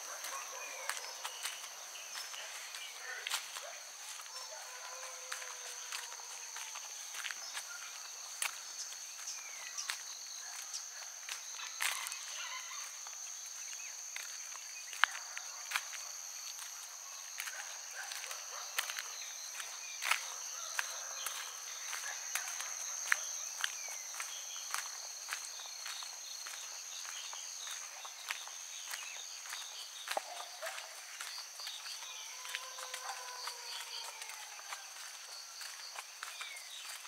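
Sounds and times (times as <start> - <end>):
crickets chirping: 0.0 - 37.0
footsteps on a path: 0.0 - 37.0.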